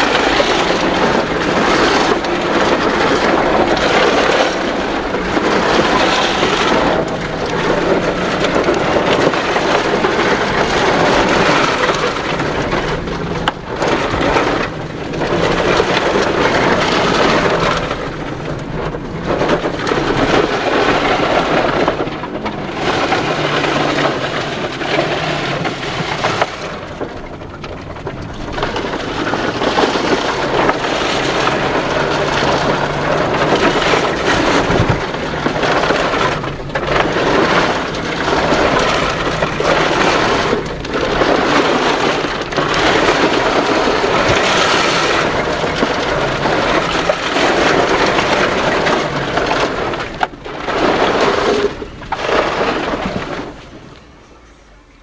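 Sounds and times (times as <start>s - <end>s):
car engine running: 0.0s - 55.0s
tyres and suspension rattling: 0.0s - 55.0s.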